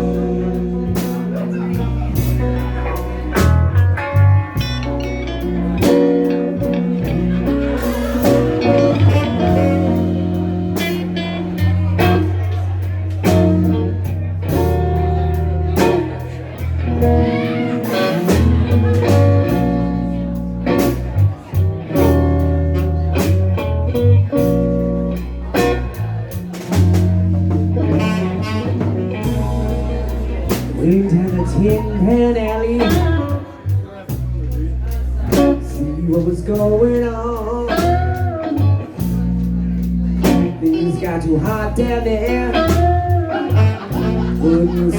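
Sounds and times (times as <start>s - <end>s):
blues band playing: 0.0s - 44.9s
drum kit: 0.0s - 44.9s
guitar: 0.0s - 44.9s
sustained bass notes: 0.0s - 44.9s.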